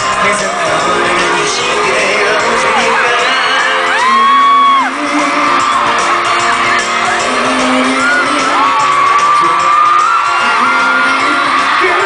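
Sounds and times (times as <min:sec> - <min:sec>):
fans screaming: 0:00.0 - 0:12.0
pop music over sound system: 0:00.0 - 0:12.0.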